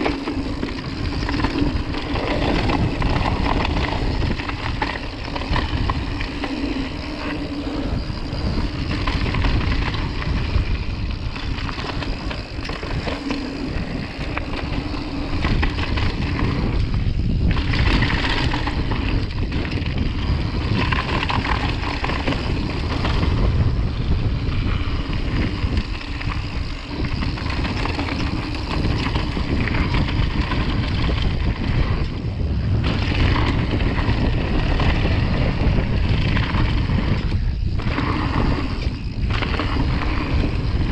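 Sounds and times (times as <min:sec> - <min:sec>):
bike tyres rolling on gravel: 0:00.0 - 0:40.9
wind buffeting microphone: 0:00.0 - 0:40.9.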